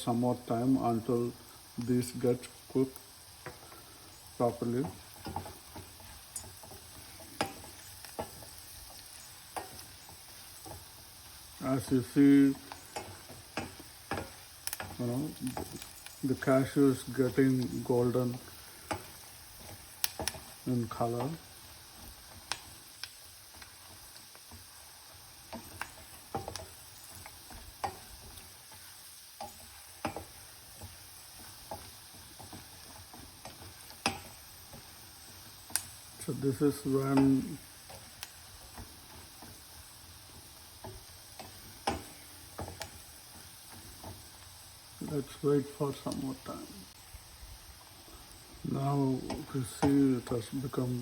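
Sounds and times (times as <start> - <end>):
food sizzling in a pan: 0.0 - 51.0
nuts frying in oil: 0.0 - 51.0
spoon stirring and clicking on pan: 4.5 - 45.3, 49.2 - 50.5.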